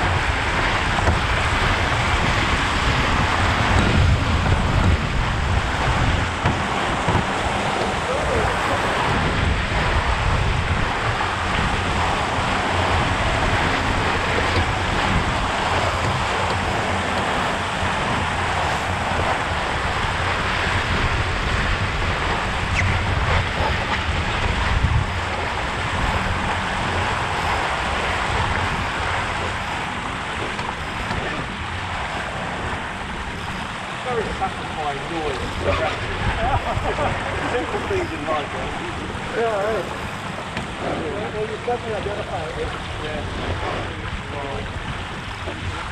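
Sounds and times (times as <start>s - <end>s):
water rushing past boat: 0.0s - 45.9s
wind buffeting microphone: 0.0s - 45.9s.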